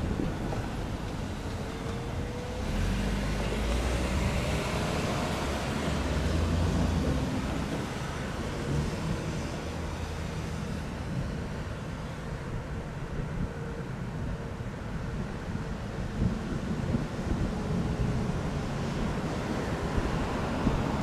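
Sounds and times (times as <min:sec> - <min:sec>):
cars driving past: 0:00.0 - 0:12.8, 0:16.2 - 0:21.0.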